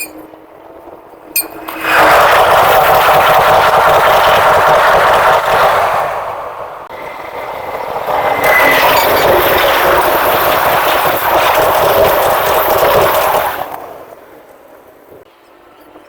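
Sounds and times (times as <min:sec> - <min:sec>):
diesel train passing at speed: 0:00.0 - 0:16.0.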